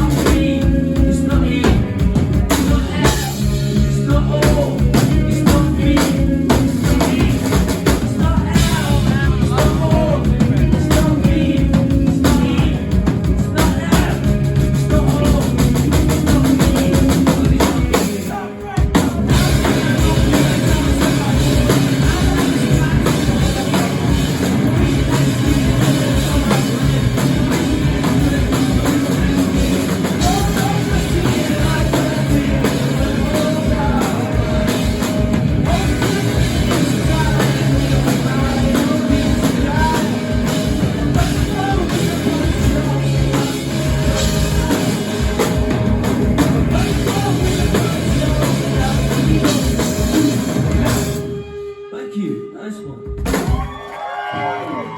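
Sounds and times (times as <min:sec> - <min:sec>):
person singing: 0:00.0 - 0:45.8, 0:46.4 - 0:50.8
drum kit beat: 0:00.0 - 0:51.4, 0:52.9 - 0:53.9
rock band playing: 0:00.0 - 0:54.9.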